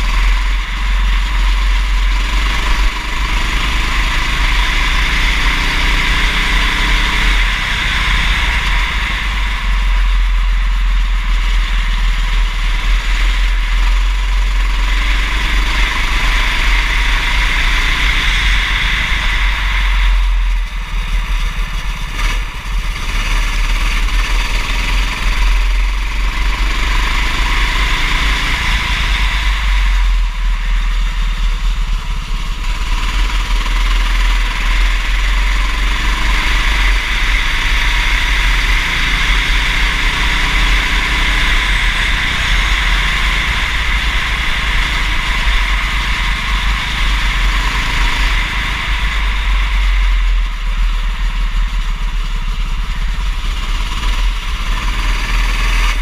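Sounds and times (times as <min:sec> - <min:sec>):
kart engine accelerating: 0:00.0 - 0:56.0.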